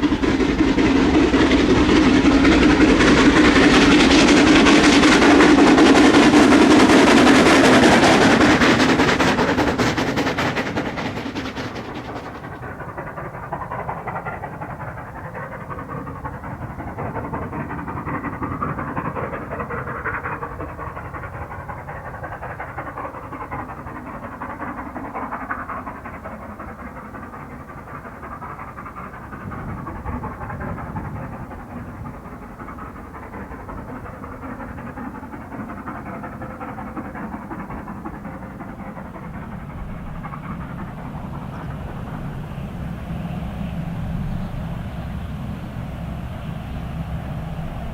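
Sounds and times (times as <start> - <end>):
steam locomotive passing: 0.0 - 47.9.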